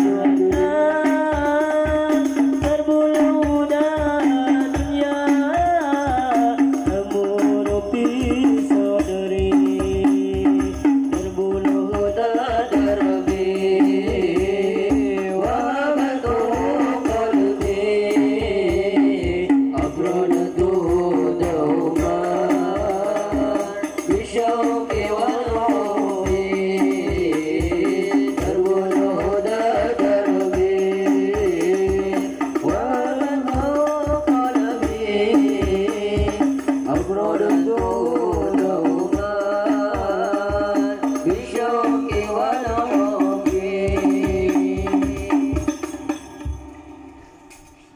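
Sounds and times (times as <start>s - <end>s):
men singing devotional song: 0.0s - 47.7s
frame drums beating: 0.0s - 47.9s.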